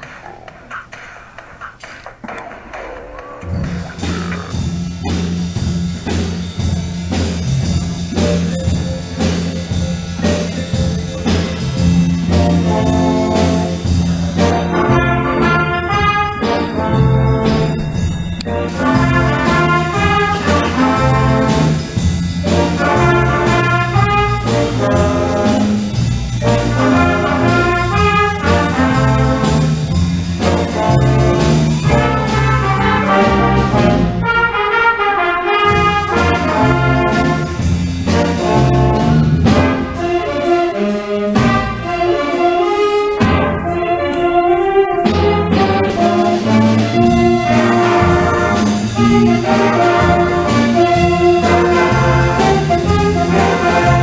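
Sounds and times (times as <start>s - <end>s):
school band playing: 3.5s - 54.0s.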